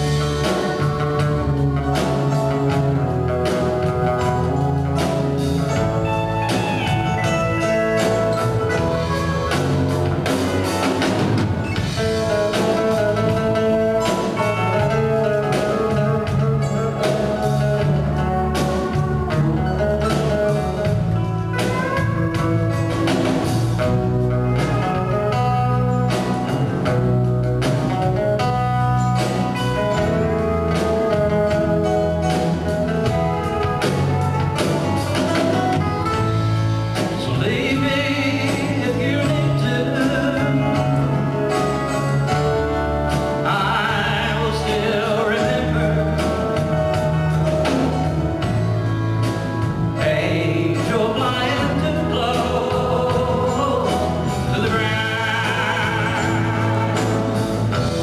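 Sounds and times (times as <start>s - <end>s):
acoustic guitar: 0.0s - 58.0s
country band playing: 0.0s - 58.0s.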